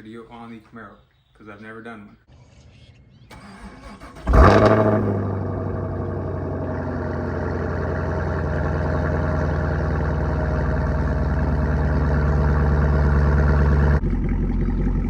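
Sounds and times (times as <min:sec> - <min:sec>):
car engine starting and idling: 0:02.7 - 0:15.0.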